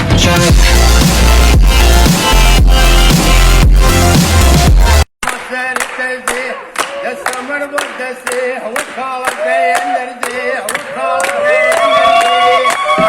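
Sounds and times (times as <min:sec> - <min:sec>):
sharp rhythmic claps: 0:01.0 - 0:13.0.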